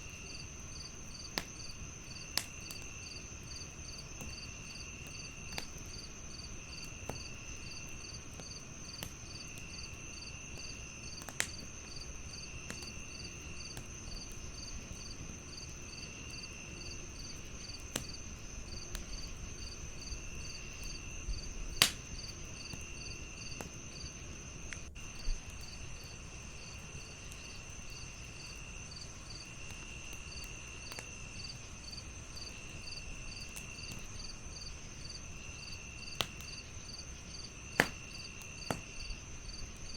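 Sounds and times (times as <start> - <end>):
cricket chirping: 0.0 - 39.9
crickets trilling: 0.0 - 39.9
lower cricket trill: 0.0 - 39.9
wood fire crackling: 0.0 - 39.9.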